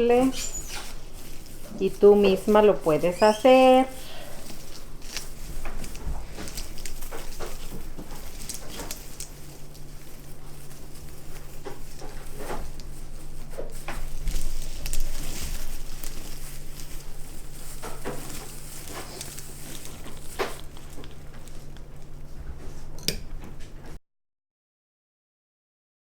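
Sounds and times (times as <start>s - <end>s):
plastic needles rustling and scraping: 0.0s - 22.9s.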